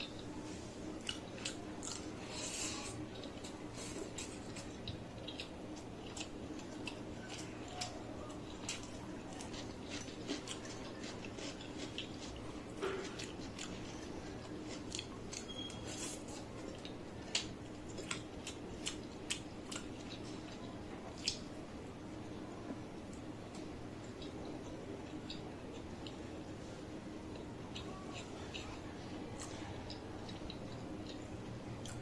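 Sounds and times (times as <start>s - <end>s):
person chewing food: 0.0s - 21.6s, 23.1s - 26.6s, 27.2s - 32.0s.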